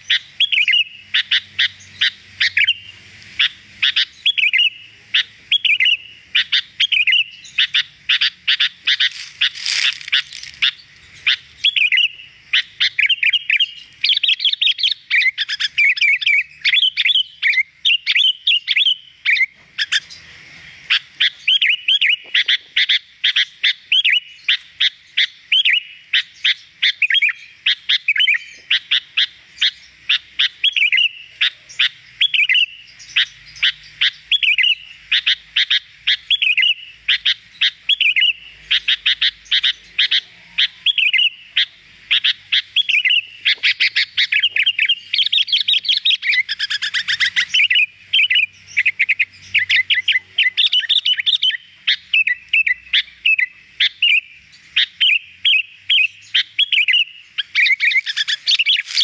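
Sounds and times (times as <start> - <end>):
bird chirping and whistling: 0.0 - 20.2, 21.2 - 23.0, 23.9 - 29.0, 29.6 - 59.0.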